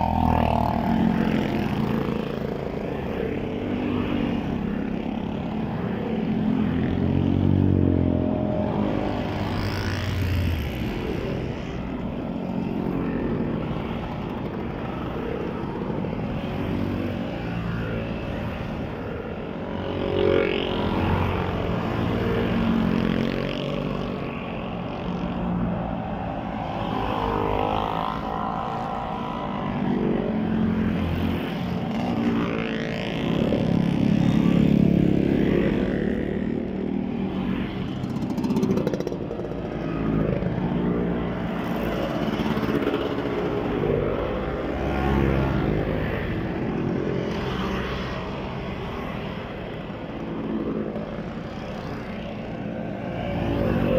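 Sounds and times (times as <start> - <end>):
motor scooters riding past: 0.0 - 53.9.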